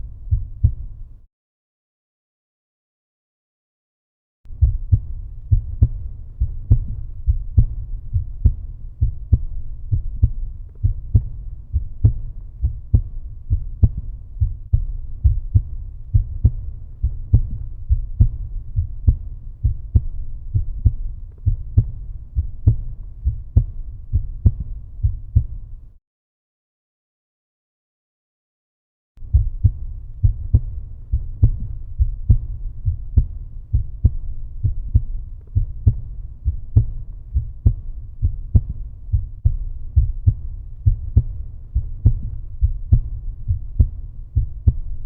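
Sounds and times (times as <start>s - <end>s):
heartbeat thumps: 0.0s - 1.2s, 4.5s - 25.9s, 29.2s - 45.0s.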